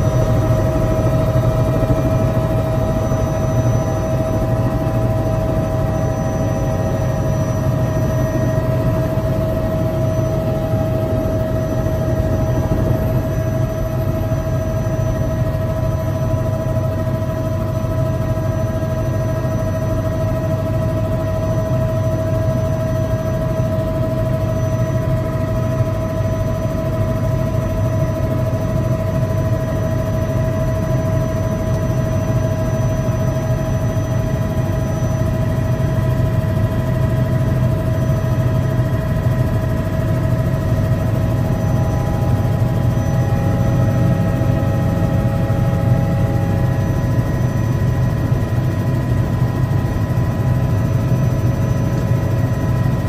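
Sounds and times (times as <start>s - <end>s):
helicopter low drone: 0.0s - 53.0s
high turbine whine: 0.0s - 53.0s.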